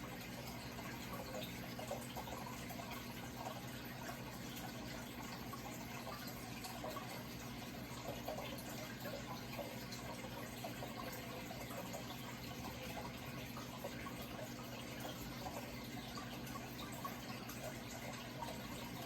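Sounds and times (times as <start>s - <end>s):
low steady hum: 0.0s - 19.0s
water trickling and splashing: 0.0s - 19.0s.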